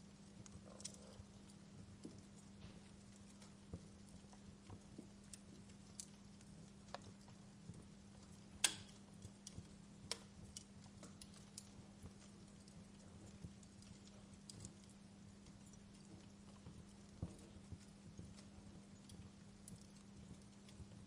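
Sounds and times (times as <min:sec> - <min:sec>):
steady low hum: 0:00.0 - 0:21.0
wood fire crackling: 0:00.0 - 0:21.0.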